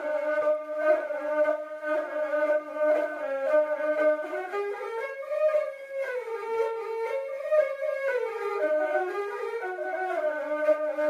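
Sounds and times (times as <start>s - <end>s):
flute-like melody: 0.0s - 11.0s.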